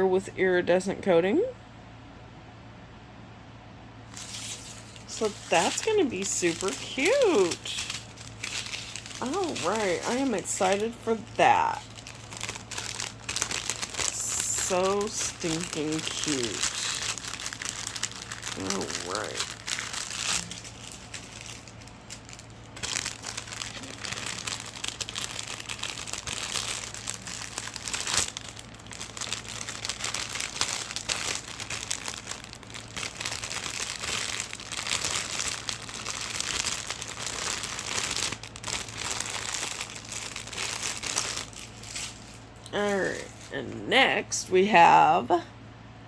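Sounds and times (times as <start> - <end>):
low steady hum: 0.0 - 46.0
plastic packaging crinkling: 4.1 - 43.6.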